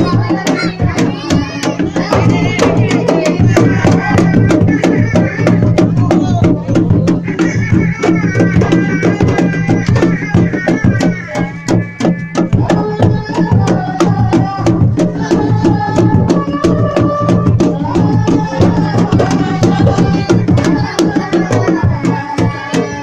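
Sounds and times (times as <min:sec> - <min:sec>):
drums in fast rhythm: 0:00.0 - 0:23.0.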